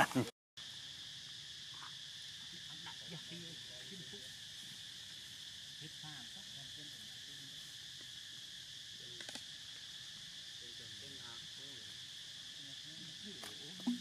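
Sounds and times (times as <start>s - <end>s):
insect chorus droning: 0.0s - 14.0s.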